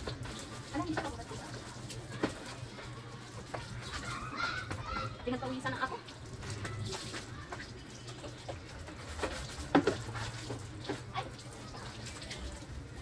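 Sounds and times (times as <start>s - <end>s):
hose water splashing: 0.0s - 13.0s.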